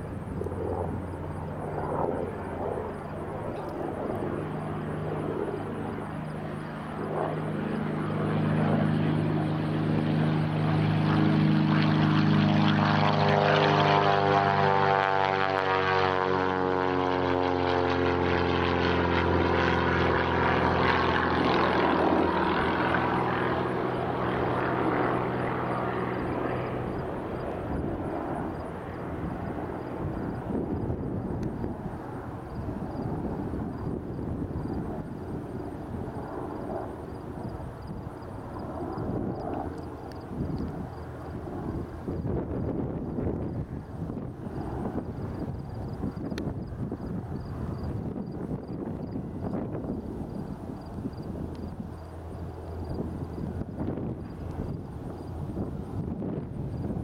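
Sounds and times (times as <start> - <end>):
propeller plane engine at full power: 0.0 - 57.0.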